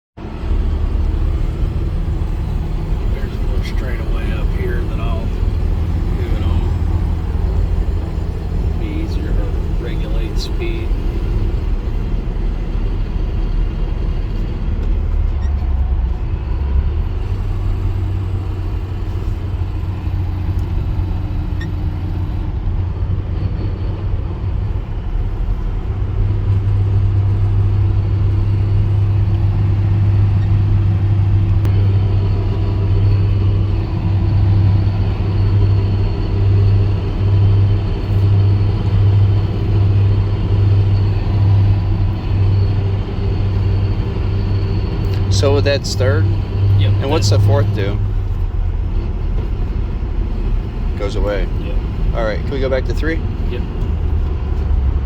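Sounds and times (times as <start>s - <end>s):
pickup truck engine and road rumble: 0.1s - 55.0s
transmission gear whine: 0.2s - 55.0s.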